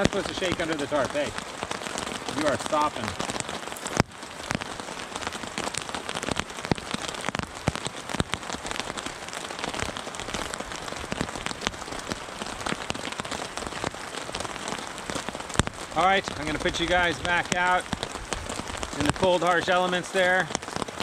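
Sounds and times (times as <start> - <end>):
rain on a tarp: 0.0 - 21.0.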